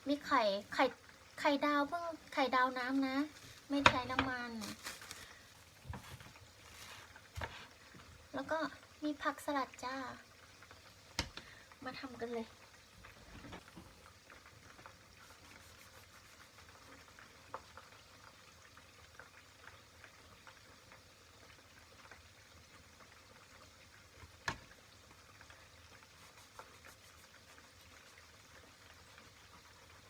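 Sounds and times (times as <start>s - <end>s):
water simmering in a pan: 0.0s - 30.0s.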